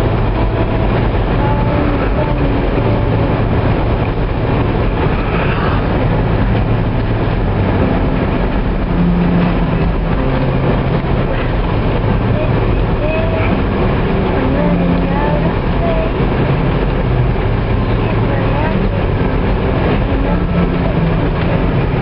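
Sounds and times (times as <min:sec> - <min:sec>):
engine drone: 0:00.0 - 0:22.0
tyre and wind roar: 0:00.0 - 0:22.0.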